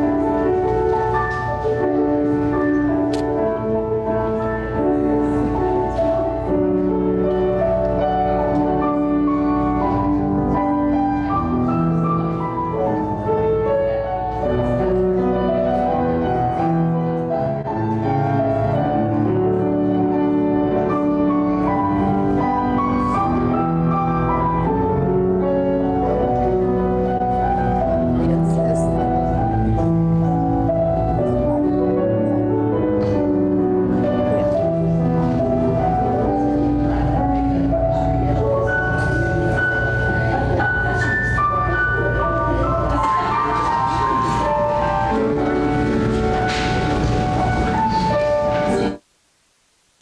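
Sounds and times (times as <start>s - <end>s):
slow keyboard music: 0.0s - 49.0s.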